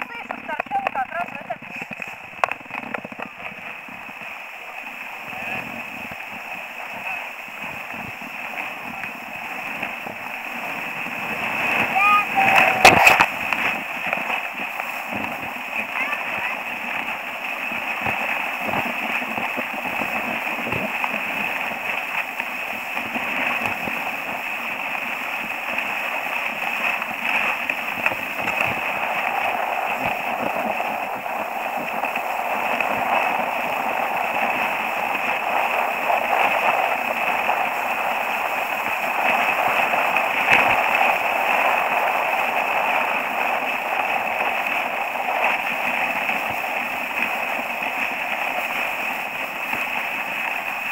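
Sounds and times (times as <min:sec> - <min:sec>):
ski clicks and knocks: 0:00.0 - 0:04.9, 0:05.6 - 0:16.1, 0:17.8 - 0:50.9
skis scraping over snow: 0:00.0 - 0:50.9.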